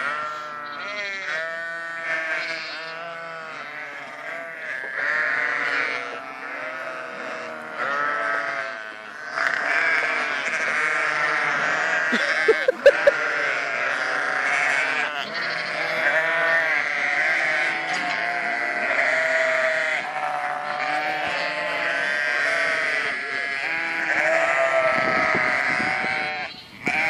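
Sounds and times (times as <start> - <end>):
sheep bleating: 0.0 - 27.0.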